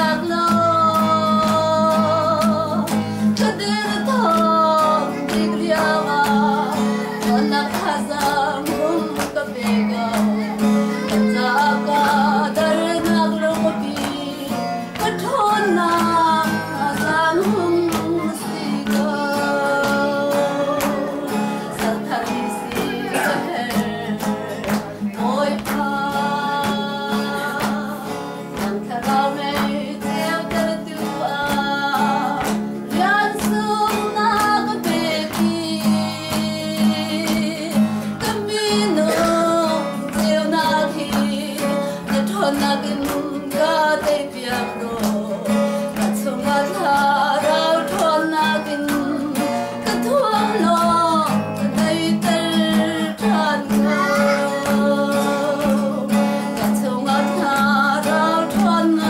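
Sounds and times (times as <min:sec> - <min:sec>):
strummed acoustic guitar: 0:00.0 - 0:59.0
woman singing: 0:00.0 - 0:59.0.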